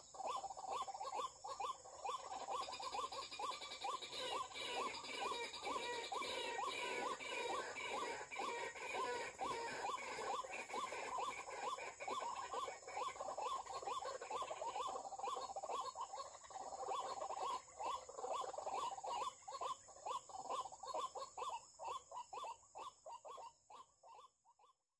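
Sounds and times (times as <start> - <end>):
waterhen croaking calls: 0.0 - 24.7.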